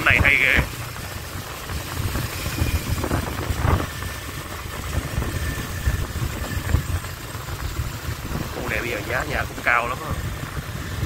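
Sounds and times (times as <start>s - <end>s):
road noise: 0.0s - 11.0s
vehicle engines rumbling: 0.0s - 11.0s.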